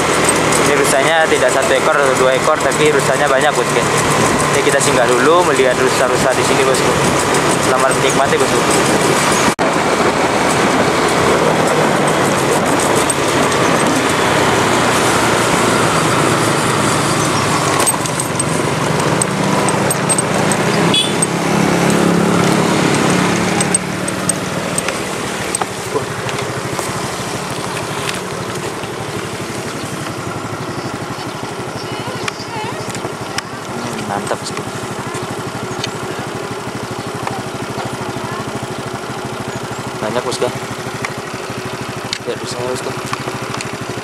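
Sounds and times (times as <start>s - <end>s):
vehicle engine and road noise: 0.0s - 44.0s.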